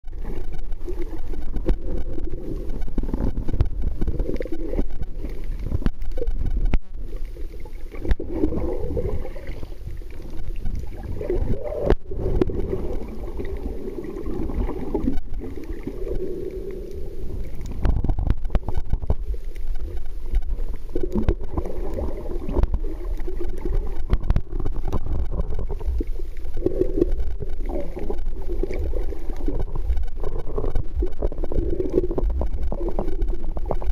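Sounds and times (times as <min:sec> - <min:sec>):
underwater rumble and gurgling: 0:00.0 - 0:33.9.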